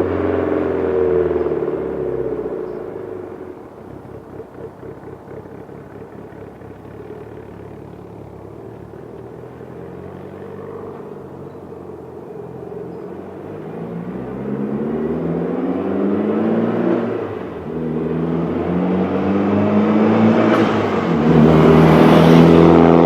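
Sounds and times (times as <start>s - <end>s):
turbocharged car engine running: 2.3s - 15.2s, 16.1s - 23.0s.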